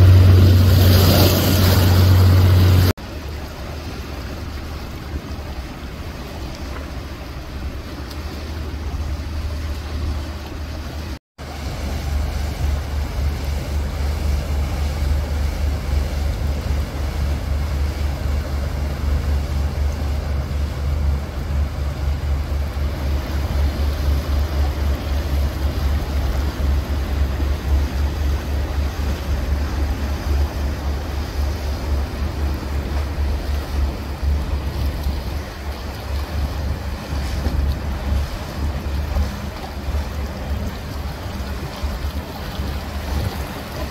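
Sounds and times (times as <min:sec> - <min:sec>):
motorboat engines rumbling: 0:00.0 - 0:43.9.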